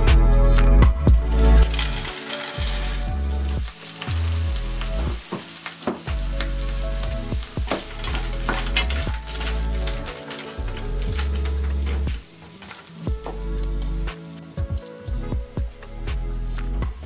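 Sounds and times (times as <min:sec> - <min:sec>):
shrimp sizzling in oil: 0:01.2 - 0:16.1.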